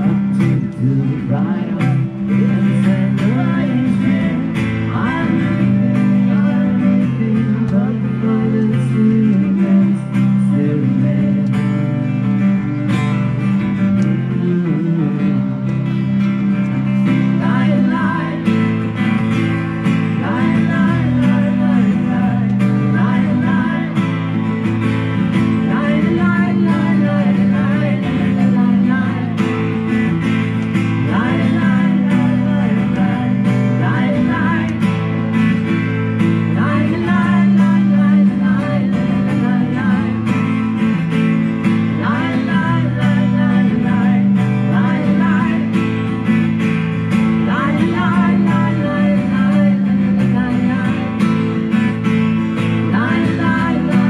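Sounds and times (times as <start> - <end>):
person singing: 0.0 - 12.5, 14.0 - 19.4, 20.0 - 24.7, 25.3 - 30.2, 31.0 - 40.7, 41.8 - 46.4, 47.3 - 52.0, 52.8 - 54.0
acoustic guitar strumming: 0.0 - 54.0.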